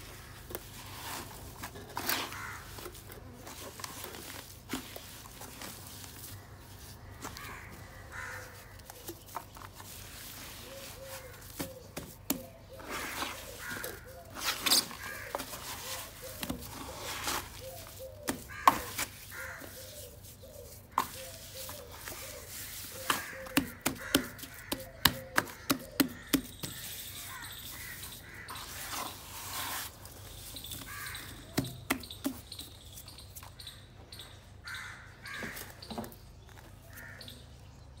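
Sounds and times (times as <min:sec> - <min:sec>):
hand squelching wet soil: 0:00.0 - 0:33.5.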